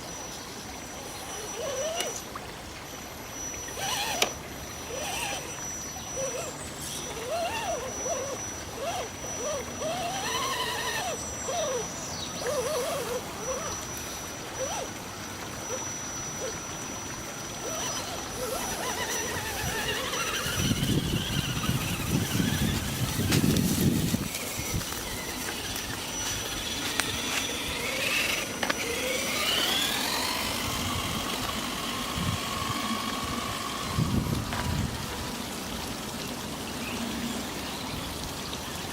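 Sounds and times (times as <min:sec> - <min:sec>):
electric motor whining: 0:00.1 - 0:35.6.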